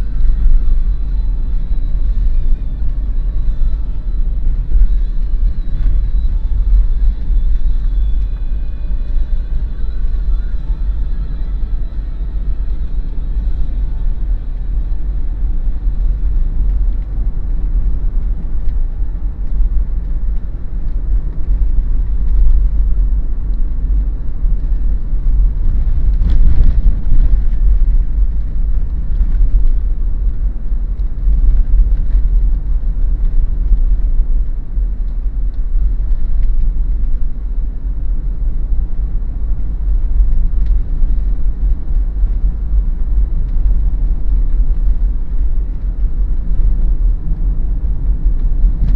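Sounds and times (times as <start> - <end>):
car driving low rumble: 0.0 - 48.9.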